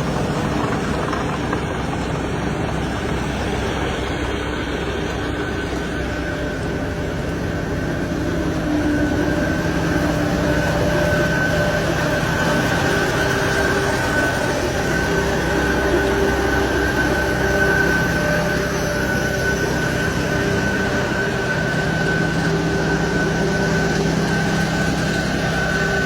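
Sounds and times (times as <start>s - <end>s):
heavy machine engine running: 0.0s - 26.0s
high whine: 0.0s - 26.0s.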